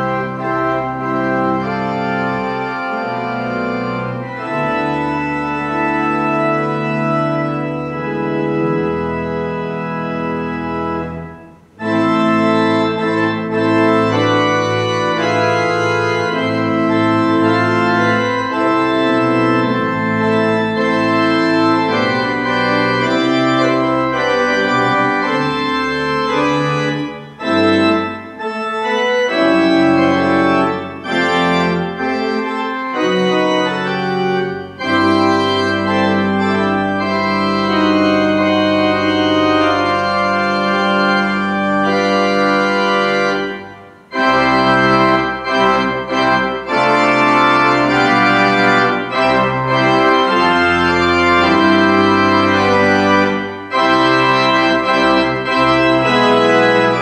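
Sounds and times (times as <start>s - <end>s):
pipe organ chords: 0.0s - 57.0s.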